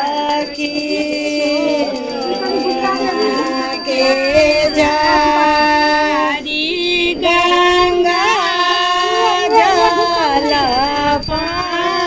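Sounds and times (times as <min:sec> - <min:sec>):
women singing a hymn: 0:00.0 - 0:12.0.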